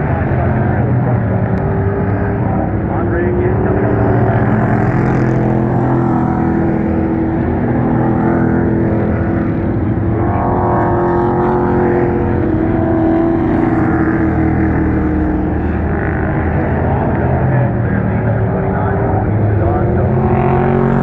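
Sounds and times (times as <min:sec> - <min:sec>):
race truck engines at speed: 0:00.0 - 0:21.0.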